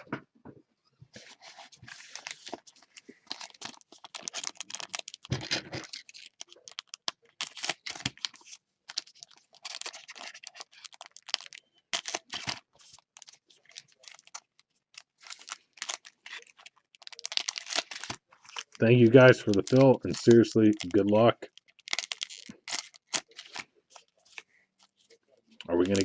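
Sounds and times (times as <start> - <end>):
cards rustling and sliding: 1.1 - 26.0
card packs tearing: 1.2 - 25.0, 25.7 - 26.0.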